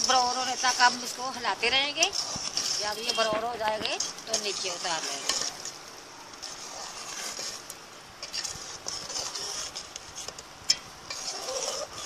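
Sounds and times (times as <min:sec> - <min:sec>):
syrup bubbling and hissing: 0:00.0 - 0:12.0.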